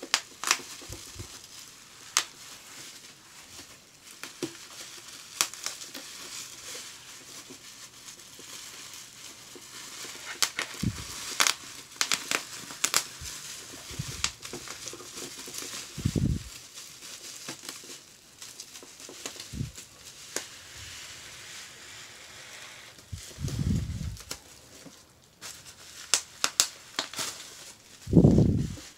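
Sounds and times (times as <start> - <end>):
bubble wrap crinkling: 0.0 - 28.9.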